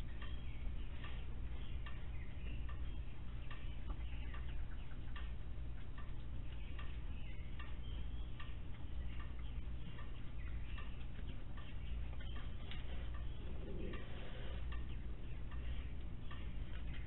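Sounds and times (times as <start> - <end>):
low electrical hum: 0.0 - 17.0
faint clicks: 0.1 - 17.0.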